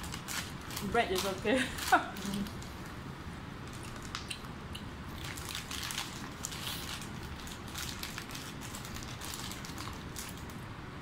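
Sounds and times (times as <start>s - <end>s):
paper wrapper crinkling: 0.0s - 2.9s, 3.6s - 4.4s, 5.1s - 10.6s
low background hum: 0.0s - 11.0s.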